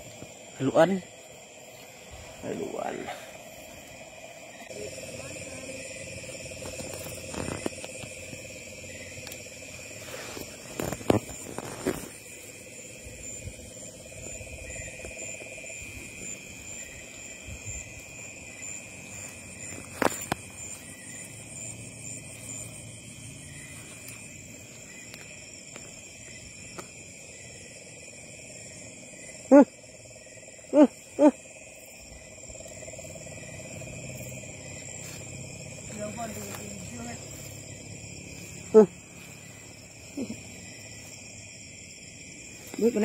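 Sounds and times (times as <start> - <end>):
crickets and insects trilling: 0.0 - 43.0.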